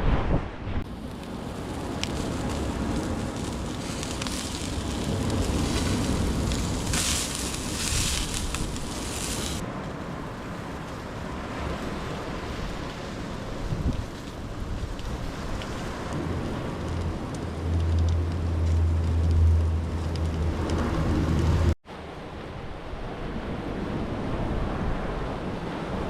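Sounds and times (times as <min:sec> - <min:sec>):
wind buffeting microphone: 0:00.0 - 0:21.8
ocean surf: 0:00.0 - 0:26.0
hissing wave wash: 0:00.8 - 0:21.8.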